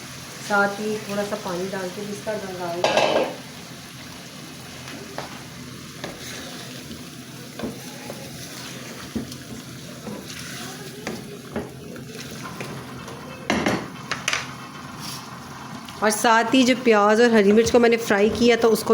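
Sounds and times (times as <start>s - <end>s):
chicken sizzling in oil: 0.0s - 18.3s.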